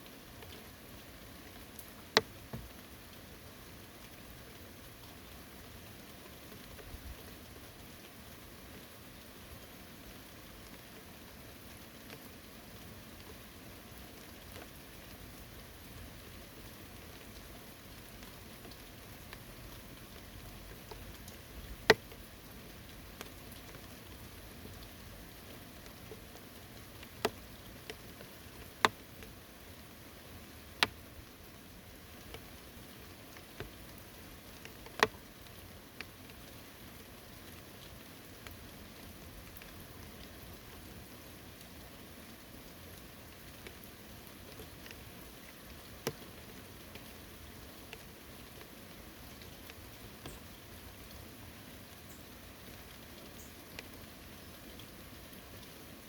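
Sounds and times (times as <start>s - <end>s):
large raindrops tapping: 0.0s - 8.9s, 9.6s - 56.0s
light rain falling: 0.0s - 56.0s.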